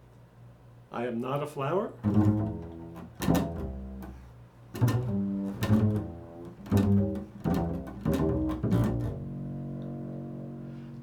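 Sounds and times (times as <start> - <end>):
low-pitched string instrument notes: 2.0 - 11.0.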